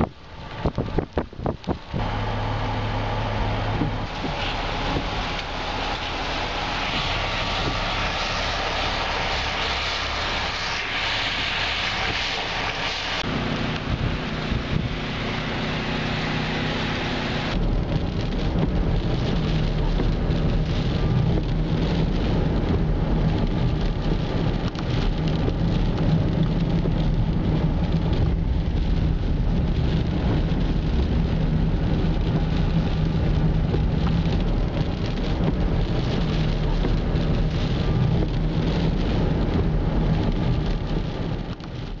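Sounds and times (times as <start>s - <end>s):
engine and drivetrain hum: 0.0s - 42.0s
tyres hissing on wet road: 0.0s - 42.0s
windshield wipers running: 0.4s - 11.0s, 12.0s - 42.0s.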